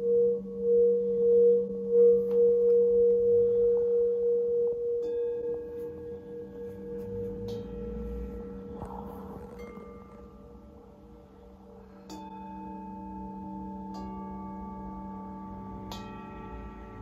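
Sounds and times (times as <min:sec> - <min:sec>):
metal singing bowls ringing: 0:00.0 - 0:17.0.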